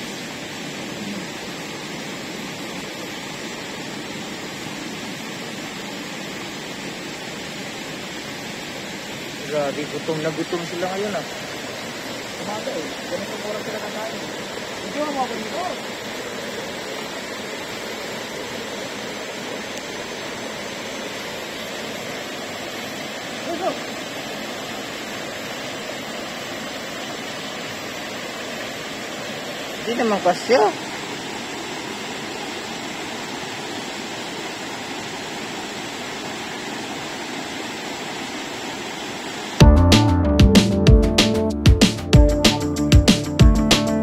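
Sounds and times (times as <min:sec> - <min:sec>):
river water rushing over boulders: 0:00.0 - 0:39.6.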